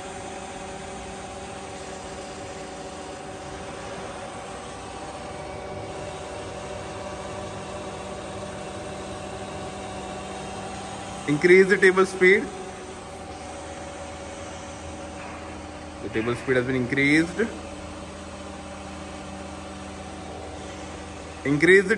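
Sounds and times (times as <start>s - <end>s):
grinder machine humming: 0.0s - 21.9s.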